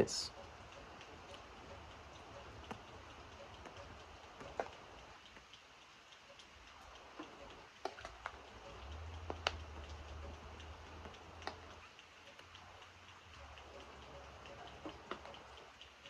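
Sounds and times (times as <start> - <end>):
faint rain hiss: 0.0 - 16.0
raindrops dripping and ticking: 0.0 - 16.0.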